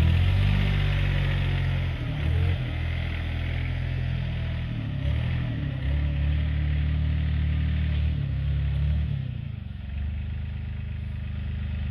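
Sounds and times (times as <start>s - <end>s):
diesel engine running under load: 0.0s - 11.9s.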